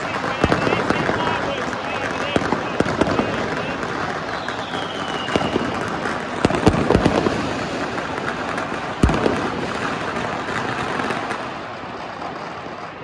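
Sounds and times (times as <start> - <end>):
firecrackers crackling: 0.0 - 13.0
loud firework bangs: 0.0 - 13.0.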